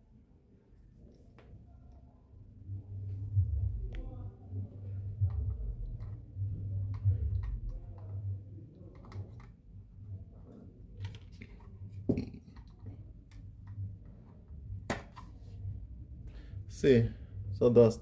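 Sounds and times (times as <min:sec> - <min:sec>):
low hum: 0:01.6 - 0:18.0.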